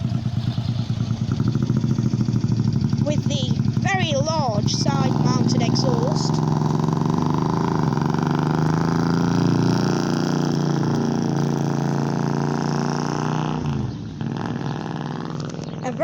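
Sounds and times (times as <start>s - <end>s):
car engine driving off: 0.0s - 16.0s.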